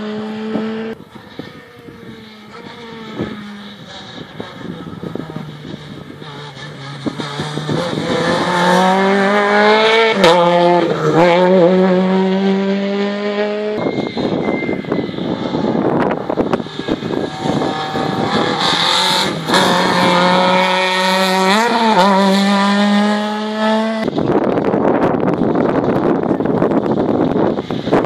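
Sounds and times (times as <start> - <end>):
rally car engine at high revs: 0.0 - 28.0.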